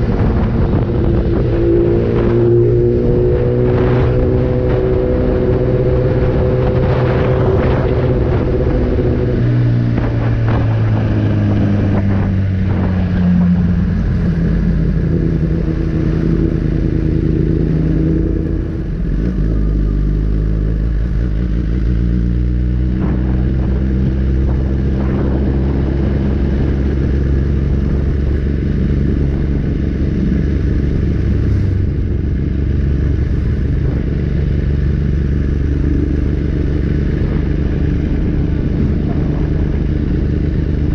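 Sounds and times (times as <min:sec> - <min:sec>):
motorcycle engine revving: 0:00.0 - 0:40.9
road and wind rush: 0:00.0 - 0:40.9.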